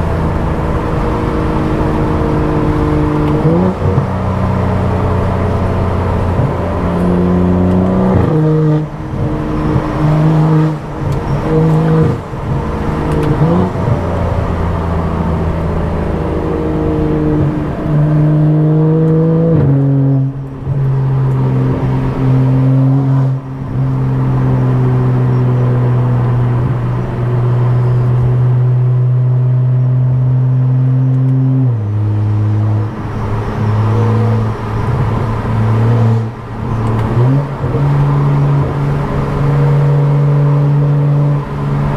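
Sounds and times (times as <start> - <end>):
car engine and loud exhaust droning: 0.0 - 41.9.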